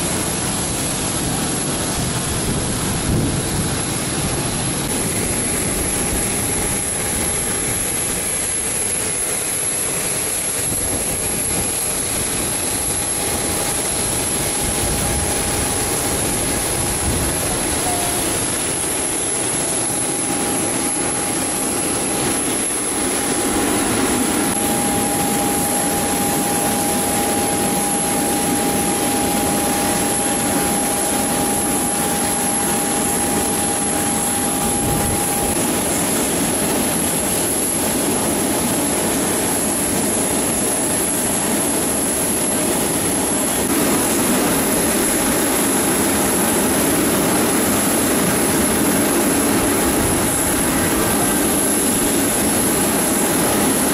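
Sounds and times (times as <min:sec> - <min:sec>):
high-pitched whine: 0:00.0 - 0:53.9
jet engine rushing: 0:00.0 - 0:53.9.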